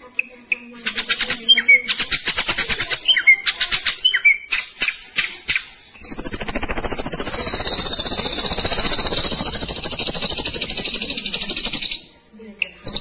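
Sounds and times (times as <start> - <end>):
bird rattling trill: 0.8 - 12.1.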